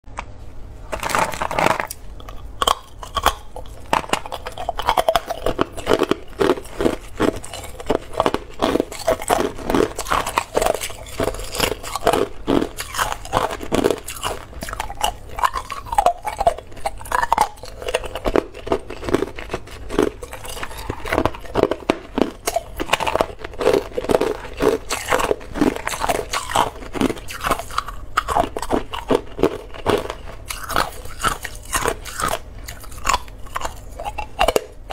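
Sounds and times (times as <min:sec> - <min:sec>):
person crunching ice cubes: 0:00.9 - 0:34.9.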